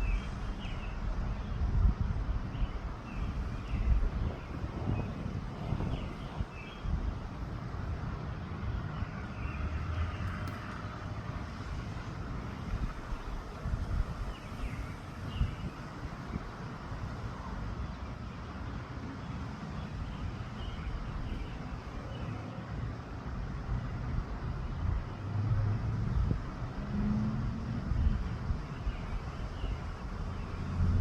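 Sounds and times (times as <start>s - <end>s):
wind buffeting microphone: 0.0s - 18.1s, 19.8s - 31.0s.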